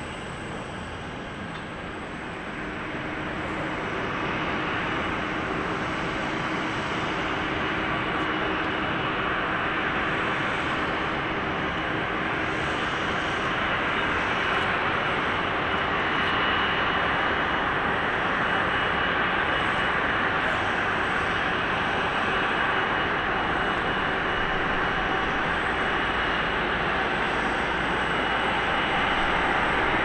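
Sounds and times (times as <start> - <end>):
jet engines idling: 0.0 - 30.0.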